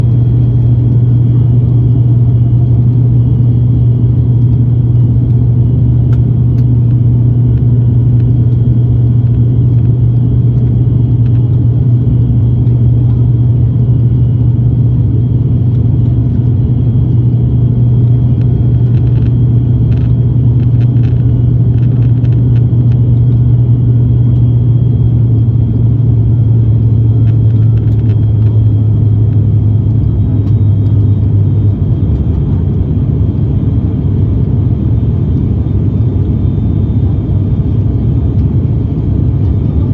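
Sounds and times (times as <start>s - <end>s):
propeller drone in cabin: 0.0s - 39.9s.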